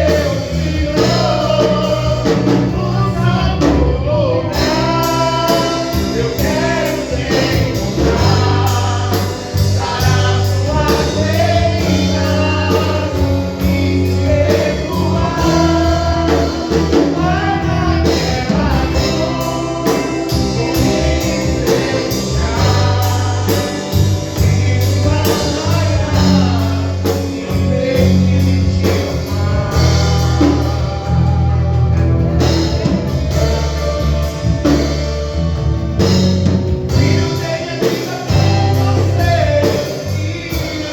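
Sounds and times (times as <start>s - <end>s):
gospel band playing: 0.0s - 40.9s.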